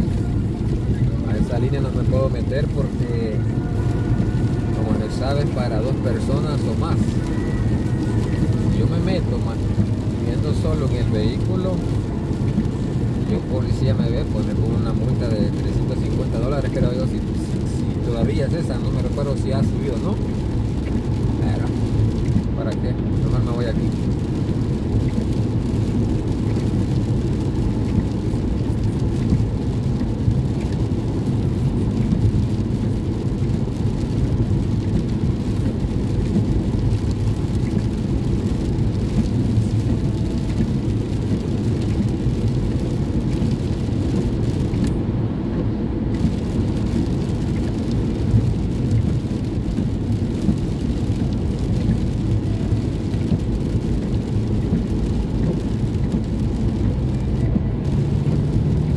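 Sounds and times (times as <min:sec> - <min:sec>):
rain on car: 0:00.0 - 0:58.9
tyre noise on wet road: 0:00.0 - 0:58.9.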